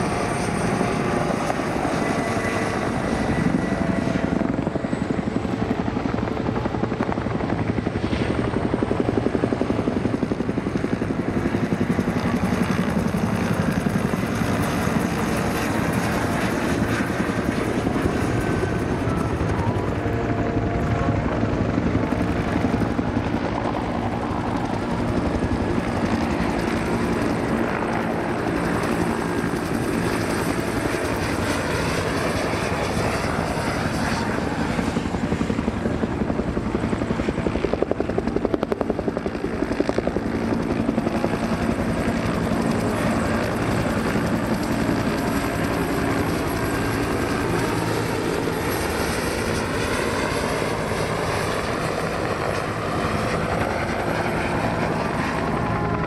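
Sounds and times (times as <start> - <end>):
helicopters flying: 0.0 - 56.0.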